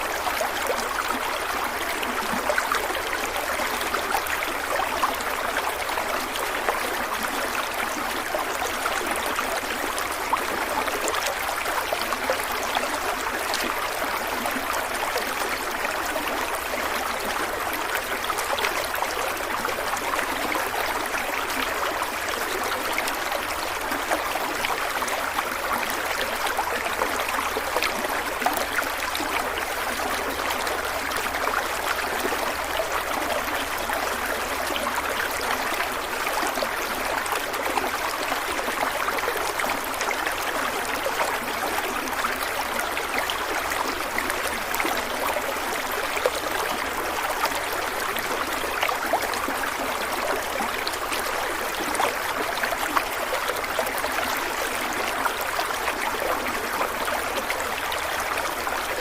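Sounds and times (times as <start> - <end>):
stream of water running: 0.0 - 59.0.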